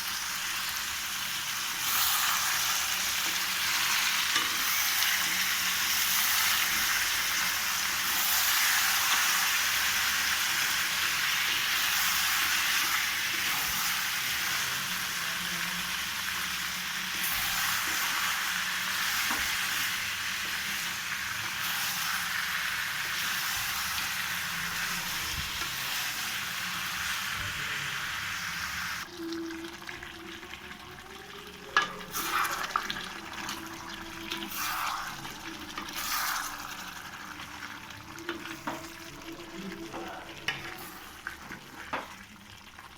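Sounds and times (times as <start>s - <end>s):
curry sizzling in pan: 0.0s - 42.9s.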